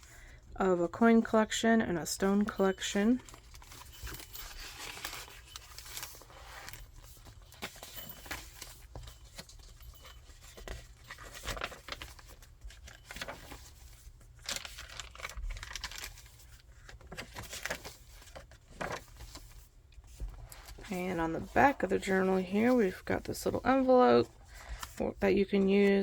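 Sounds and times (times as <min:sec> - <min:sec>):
paper pages rustling: 0:02.3 - 0:26.0.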